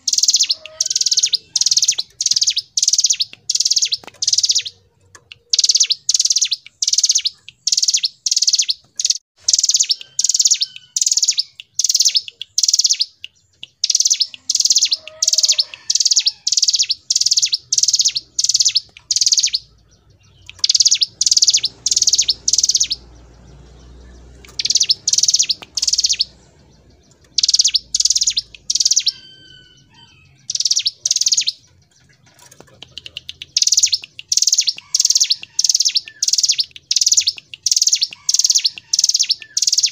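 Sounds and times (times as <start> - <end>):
bird singing sharp high notes: 0.0 - 4.8, 5.4 - 31.8, 33.0 - 39.9.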